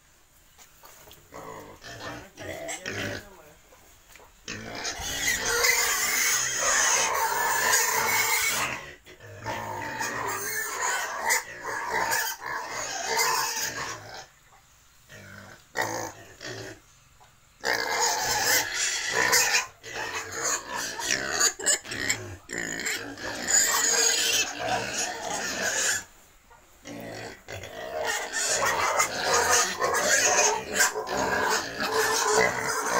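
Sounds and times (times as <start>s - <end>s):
pigs calling loudly: 1.3s - 3.4s, 4.4s - 14.4s, 15.1s - 16.8s, 17.6s - 26.1s, 26.8s - 32.9s.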